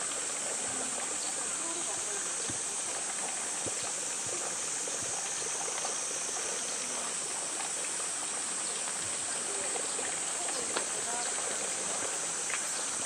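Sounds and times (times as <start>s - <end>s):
cicada chorus hissing: 0.0s - 13.0s.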